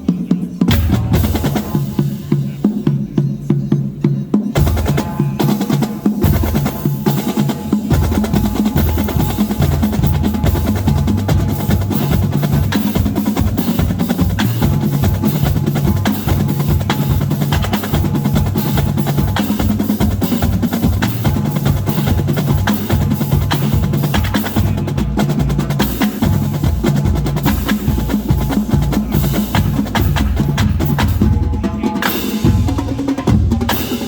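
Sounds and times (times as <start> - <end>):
bass drums: 0.0 - 34.0
marching drumline cadence: 0.0 - 34.0
snare drums rolling: 4.6 - 34.0.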